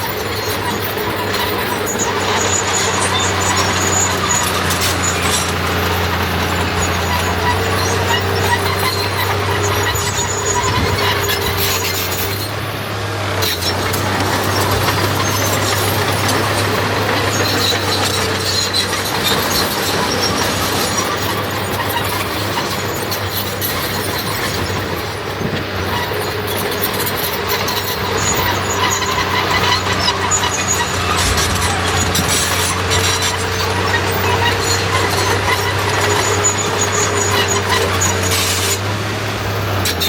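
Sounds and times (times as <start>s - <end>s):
diesel machinery running: 0.0s - 40.0s.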